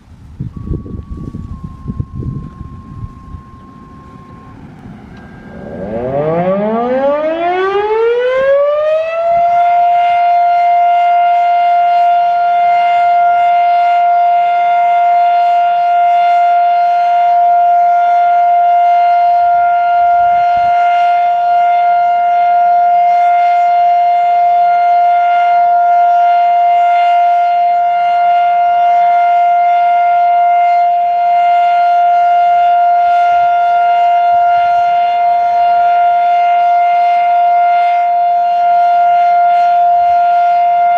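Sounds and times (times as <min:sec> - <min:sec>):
tornado siren winding up: 0:00.0 - 0:40.9.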